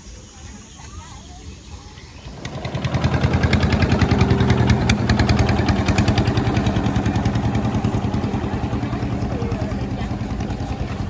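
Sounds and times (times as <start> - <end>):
small engine running: 1.5 - 11.0.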